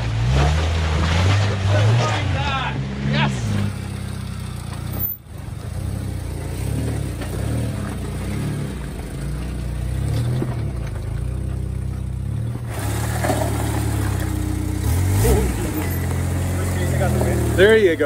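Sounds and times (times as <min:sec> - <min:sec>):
off-road vehicle engine at low revs: 0:00.0 - 0:18.0.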